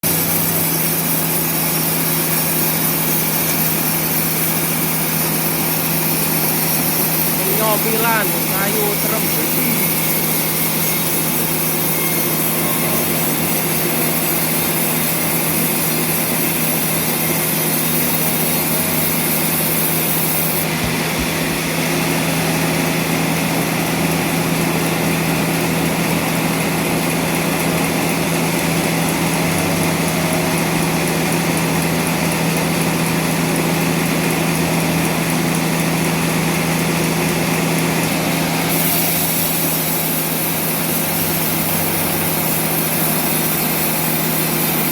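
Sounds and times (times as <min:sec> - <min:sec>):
saw cutting timber hiss: 0:00.0 - 0:33.3, 0:36.2 - 0:44.9
sawmill machine hum: 0:00.0 - 0:44.9.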